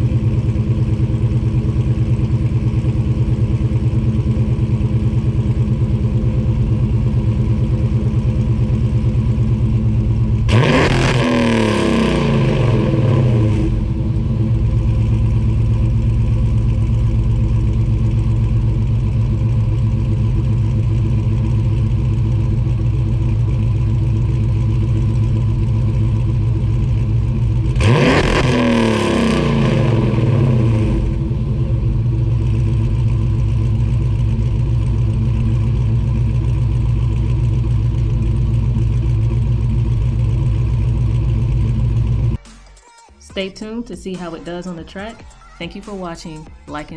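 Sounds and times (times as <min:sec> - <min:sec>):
car engine idling and revving: 0:00.0 - 0:42.6.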